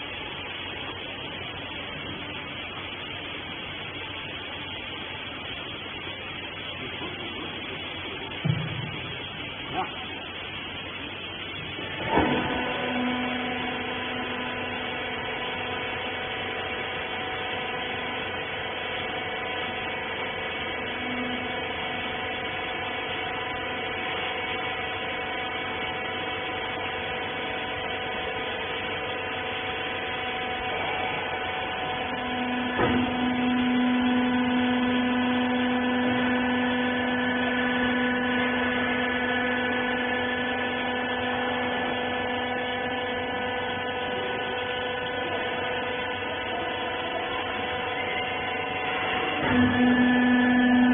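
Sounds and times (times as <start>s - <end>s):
pump motor humming: 0.0s - 50.9s.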